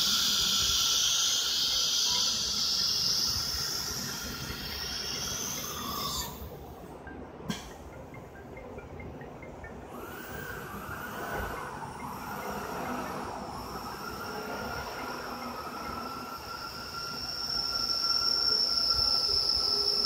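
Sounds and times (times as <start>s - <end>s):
high-pitched motor whine: 0.0s - 20.0s.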